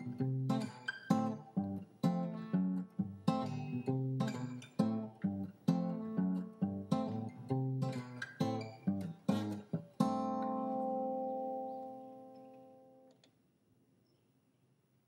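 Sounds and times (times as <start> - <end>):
acoustic guitar strumming: 0.0 - 13.1.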